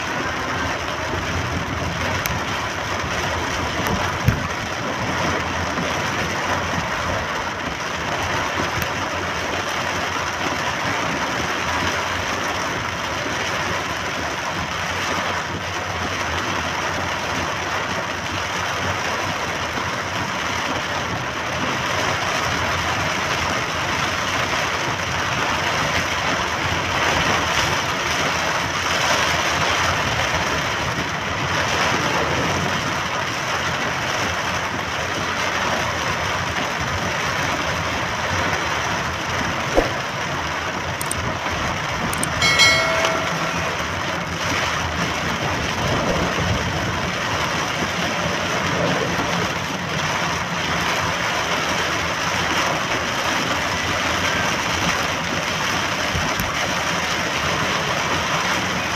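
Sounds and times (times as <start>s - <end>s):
rain on car roof: 0.0s - 58.9s.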